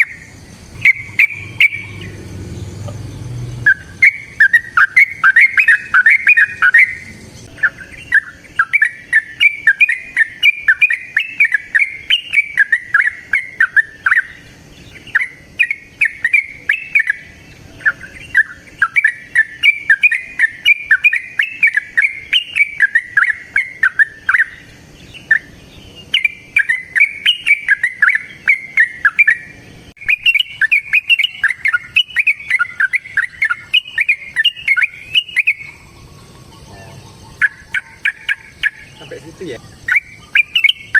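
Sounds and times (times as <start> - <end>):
bird singing rapid chirping notes: 0.0 - 40.9.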